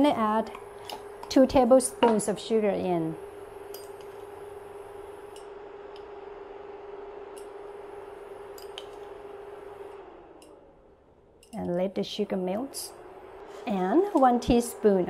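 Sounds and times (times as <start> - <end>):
induction cooktop humming: 0.0 - 15.0.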